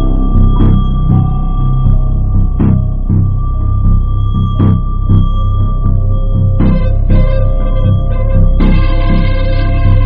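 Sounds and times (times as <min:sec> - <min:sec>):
background music with low beat: 0:00.0 - 0:10.0.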